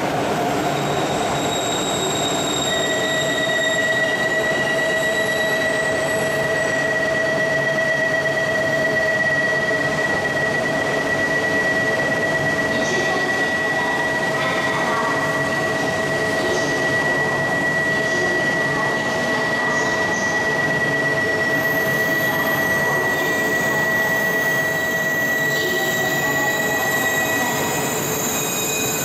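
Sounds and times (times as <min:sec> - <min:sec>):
train noise: 0:00.0 - 0:29.0.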